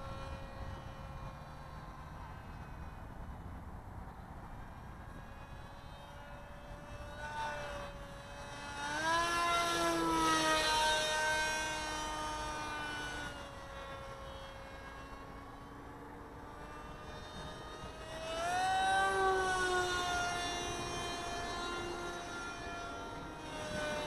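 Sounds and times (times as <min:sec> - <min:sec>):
model plane motor whining: 0:00.0 - 0:24.0.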